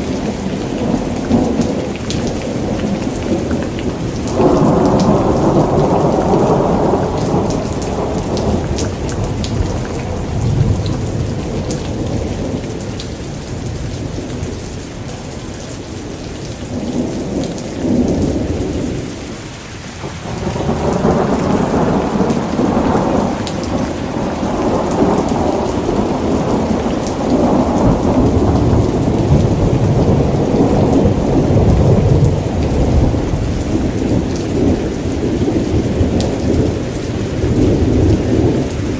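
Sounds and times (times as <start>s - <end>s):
rolling thunder: 0.0s - 12.8s, 20.0s - 38.9s
steady rain: 0.0s - 38.9s.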